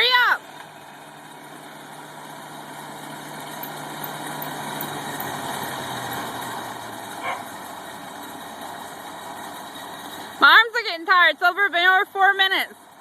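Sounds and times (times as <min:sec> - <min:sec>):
gas engine running steadily: 0:00.0 - 0:13.0.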